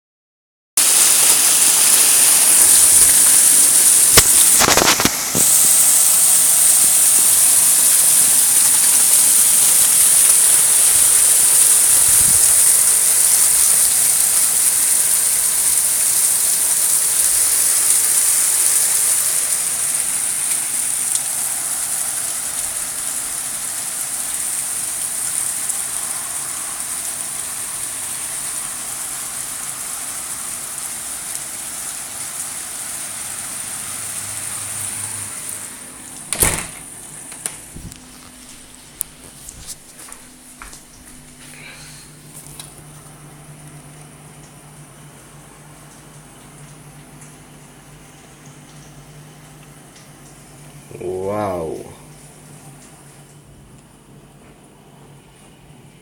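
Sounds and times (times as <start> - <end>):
heavy rain: 0.8 - 53.2.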